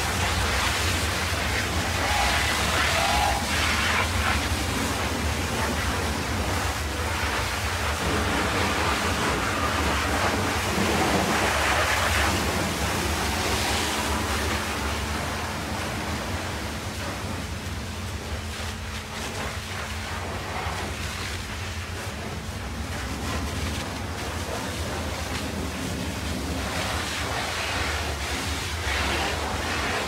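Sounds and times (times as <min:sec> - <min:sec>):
water jet spraying on metal: 0:00.0 - 0:30.0.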